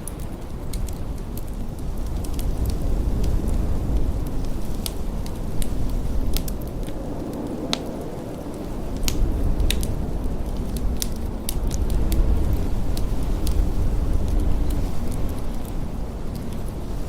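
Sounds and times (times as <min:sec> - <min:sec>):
blizzard wind: 0:00.0 - 0:17.0
wood fire crackling: 0:00.0 - 0:17.0.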